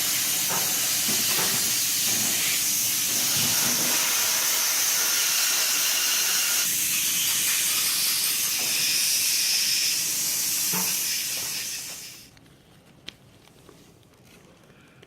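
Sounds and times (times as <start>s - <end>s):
loud steady hiss: 0.0s - 12.3s.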